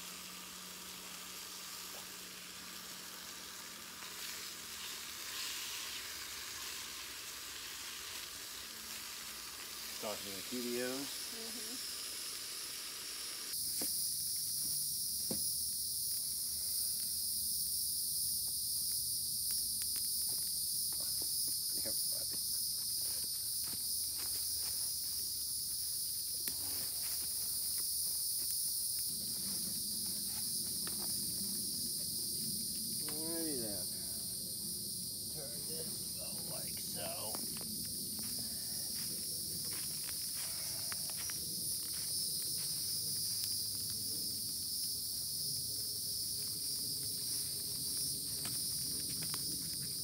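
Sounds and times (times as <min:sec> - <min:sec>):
shrill insect chorus: 0:00.0 - 0:50.0.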